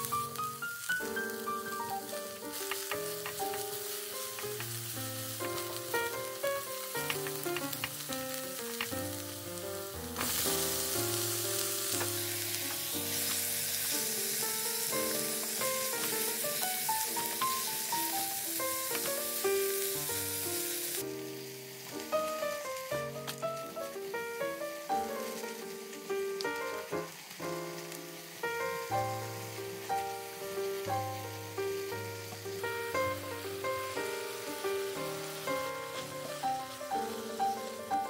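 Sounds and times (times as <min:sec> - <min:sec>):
food sizzling in frying pan: 0:00.0 - 0:38.0.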